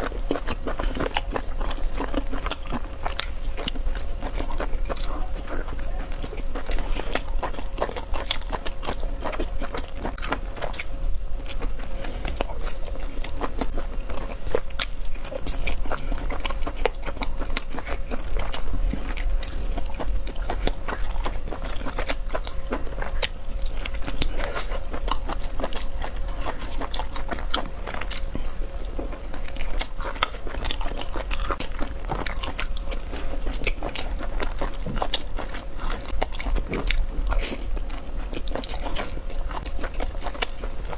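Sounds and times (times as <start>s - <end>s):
chewing and mouth clicks: 0.0s - 40.9s.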